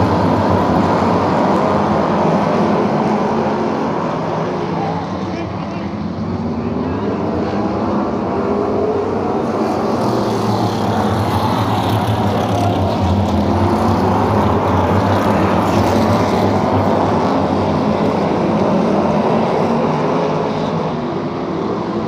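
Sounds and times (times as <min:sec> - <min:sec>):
racing car engines roaring: 0:00.0 - 0:22.0.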